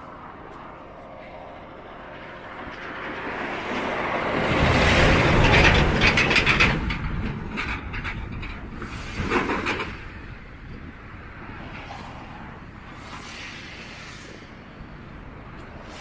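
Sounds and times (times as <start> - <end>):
steady traffic hum: 0.0 - 16.0
vehicle passing close: 0.0 - 16.0.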